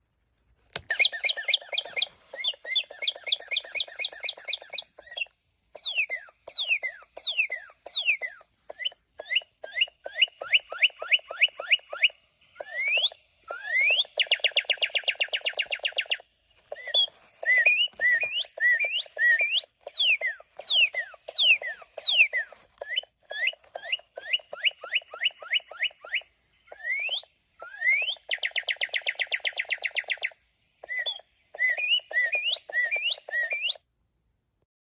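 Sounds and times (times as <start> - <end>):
electronic toy bird chirping: 0.8 - 33.8.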